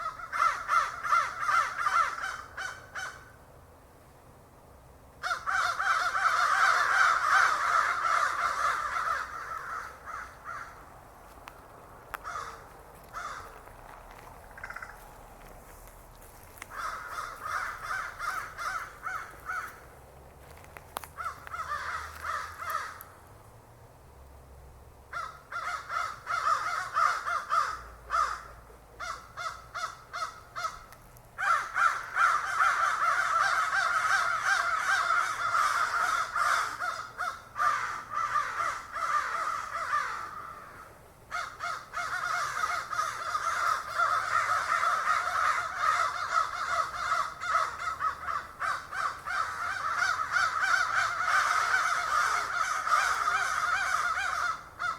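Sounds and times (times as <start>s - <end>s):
crows cawing: 0.0s - 3.4s, 5.2s - 11.0s, 12.1s - 19.9s, 21.0s - 23.1s, 25.1s - 54.9s.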